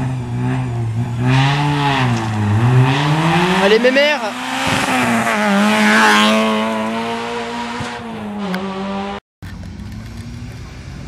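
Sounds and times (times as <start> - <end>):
rally car passing at high revs: 0.0 - 11.0.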